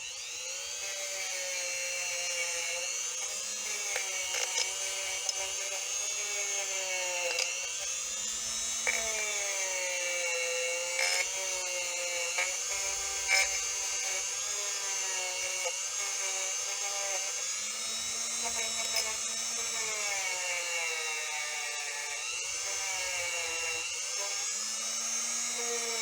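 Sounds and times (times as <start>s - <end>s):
rotary tool whining: 0.0s - 26.0s.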